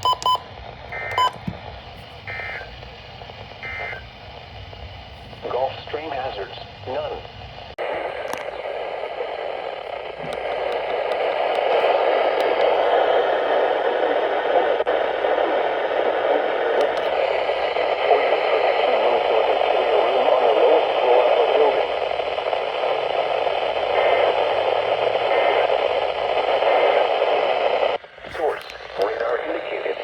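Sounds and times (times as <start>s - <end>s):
radio static hiss: 0.0s - 30.0s.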